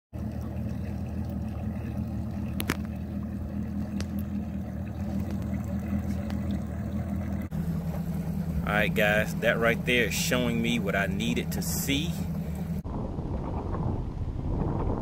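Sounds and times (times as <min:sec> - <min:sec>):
outboard motor idling: 0:00.1 - 0:13.4.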